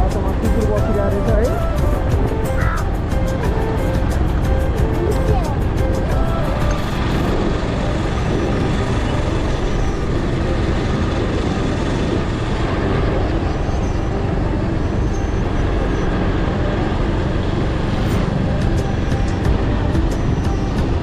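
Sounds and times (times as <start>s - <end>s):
motorbike road noise: 0.0s - 21.0s
wind rush: 0.0s - 21.0s.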